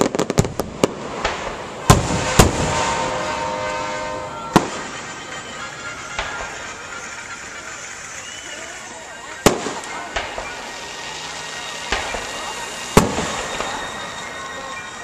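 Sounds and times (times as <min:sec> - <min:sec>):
firework shells bursting: 0:00.0 - 0:08.4, 0:09.4 - 0:14.4
firework crackling: 0:00.0 - 0:15.0.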